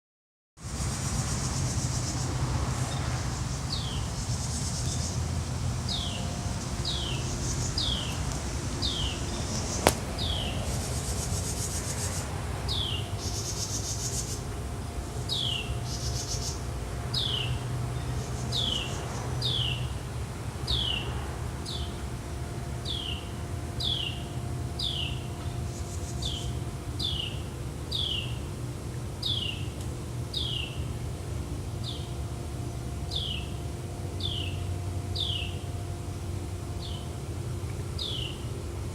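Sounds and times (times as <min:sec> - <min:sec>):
steady low rumble: 0:00.6 - 0:38.9.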